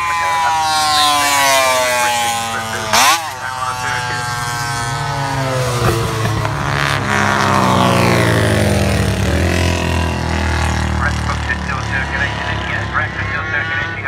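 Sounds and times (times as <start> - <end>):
racing motorcycles passing: 0.0 - 14.0.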